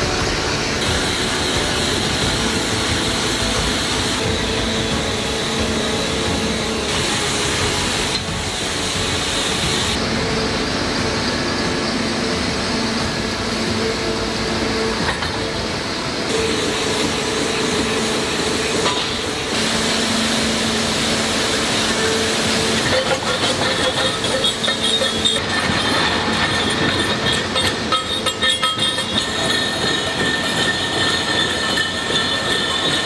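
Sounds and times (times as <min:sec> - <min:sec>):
heavy machinery droning: 0:00.0 - 0:33.0.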